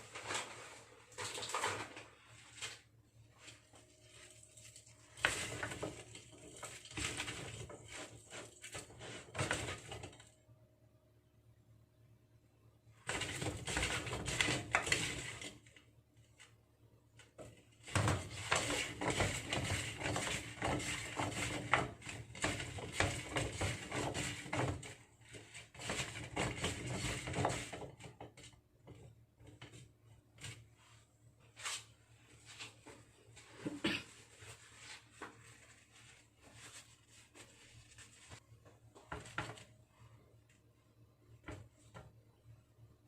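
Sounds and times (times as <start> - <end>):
hands preparing food rustling: 0.0 - 10.2, 17.2 - 42.3.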